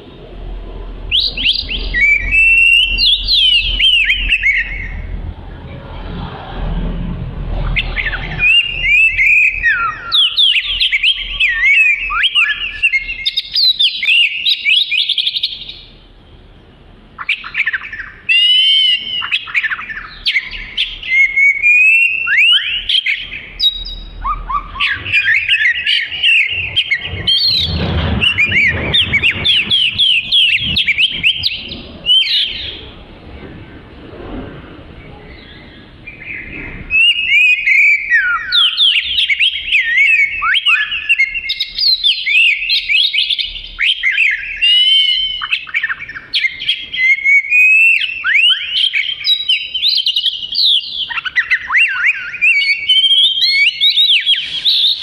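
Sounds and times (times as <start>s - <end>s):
bird song whistles and trills: 0.0s - 5.7s, 7.6s - 55.0s.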